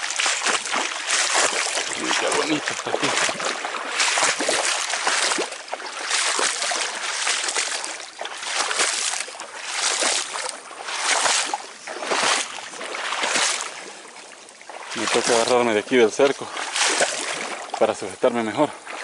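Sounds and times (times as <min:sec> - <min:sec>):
footsteps splashing through water: 0:00.0 - 0:19.0.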